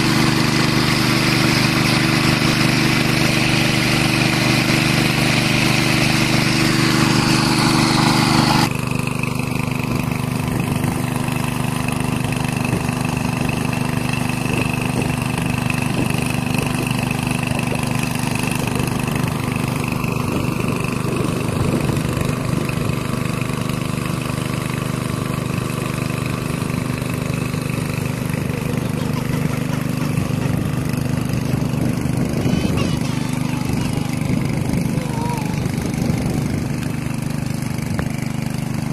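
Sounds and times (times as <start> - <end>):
small petrol pump engine running: 0.0 - 38.9
water gushing from hose: 0.0 - 38.9.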